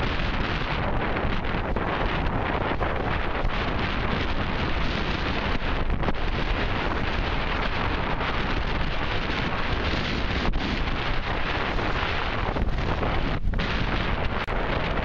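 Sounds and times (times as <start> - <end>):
hull rushing through rough sea: 0.0 - 15.0
wind buffeting microphone: 0.0 - 15.0.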